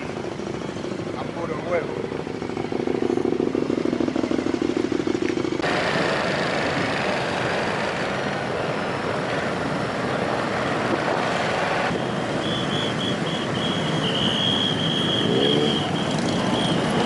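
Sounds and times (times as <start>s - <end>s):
many motorcycle engines running: 0.0s - 17.0s
motorcycle revving: 0.0s - 17.0s.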